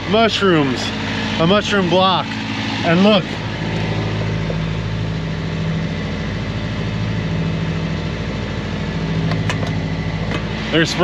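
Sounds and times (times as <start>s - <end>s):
boat engine low drone: 0.0s - 11.0s.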